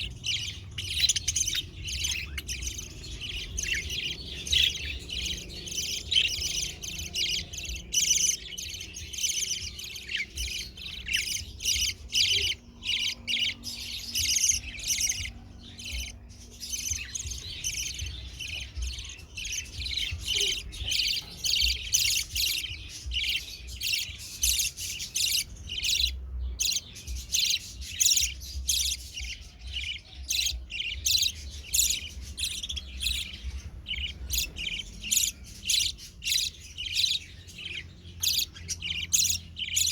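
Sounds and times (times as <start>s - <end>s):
budgerigars chirping: 0.0s - 39.9s
faint low rumble: 0.0s - 39.9s.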